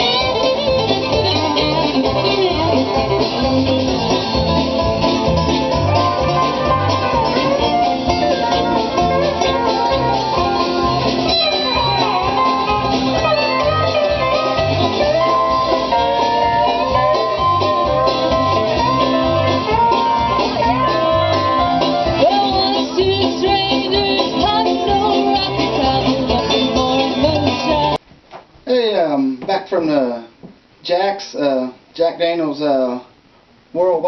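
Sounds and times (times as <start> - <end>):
banjo playing: 0.0 - 28.0
plucked guitar: 0.0 - 28.0.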